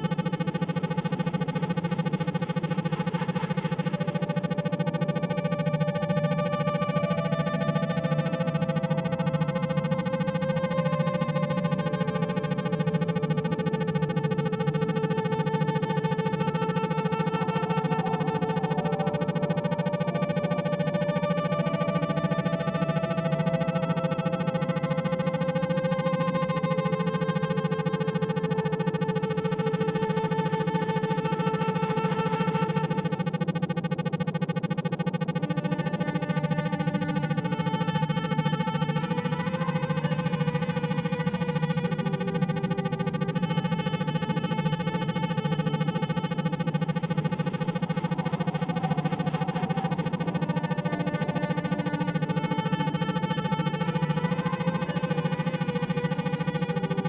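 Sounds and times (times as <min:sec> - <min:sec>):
low synthesizer hum: 0:00.0 - 0:57.0.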